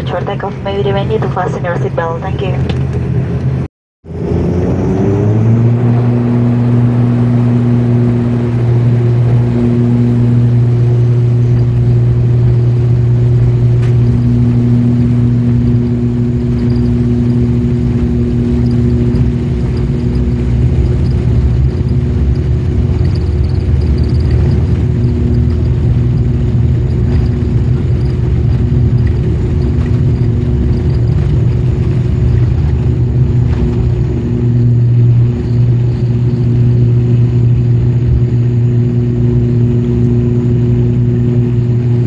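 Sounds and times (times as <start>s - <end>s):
propeller engines droning: 0.0s - 42.0s.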